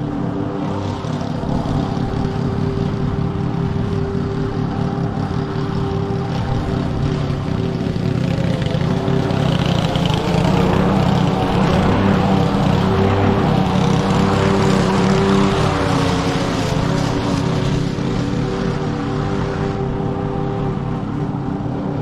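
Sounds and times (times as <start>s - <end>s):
lawn mower engine cutting grass: 0.0s - 20.8s.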